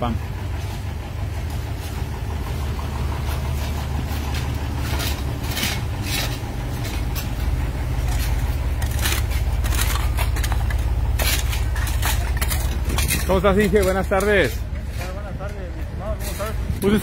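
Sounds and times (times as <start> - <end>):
diesel engine running: 0.0 - 17.0
rubble scraping and clinking: 0.5 - 17.0.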